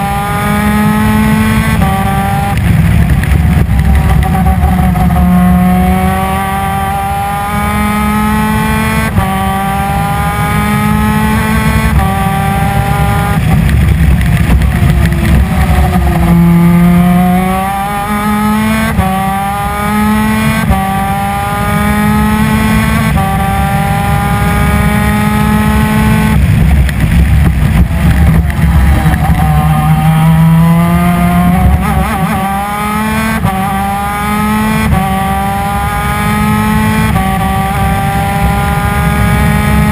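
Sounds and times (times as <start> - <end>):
kart engine at full throttle: 0.0 - 39.9.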